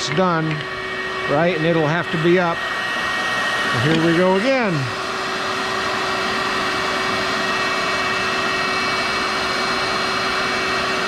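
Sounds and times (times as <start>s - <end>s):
drilling machine motor whining: 0.0s - 11.0s.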